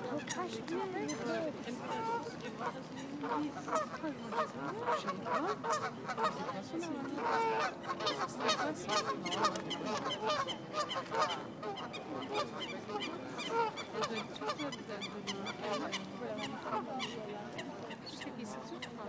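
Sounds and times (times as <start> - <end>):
geese honking: 1.1 - 6.6, 7.2 - 17.2.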